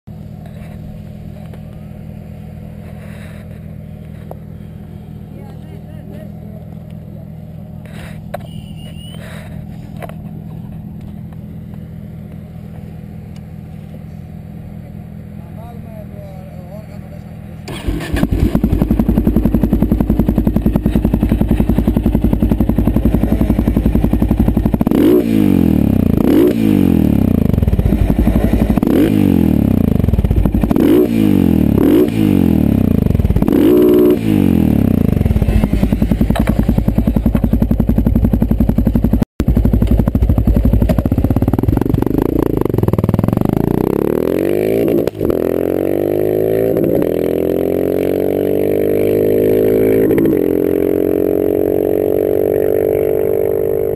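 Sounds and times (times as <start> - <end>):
motorcycle engine idling and revving: 0.1 - 53.9.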